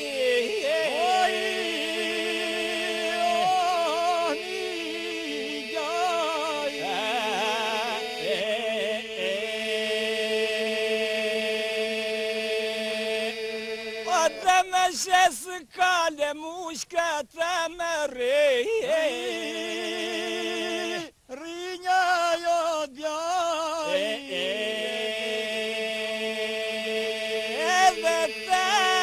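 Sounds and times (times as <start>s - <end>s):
men singing polyphonic folk song: 0.0s - 29.0s.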